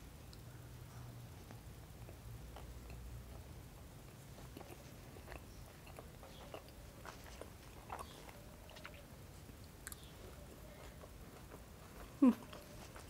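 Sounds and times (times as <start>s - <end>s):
faint chewing: 0.3s - 13.0s.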